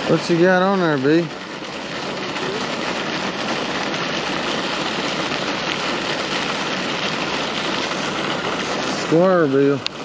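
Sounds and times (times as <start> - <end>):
hiss of water: 0.0 - 10.0.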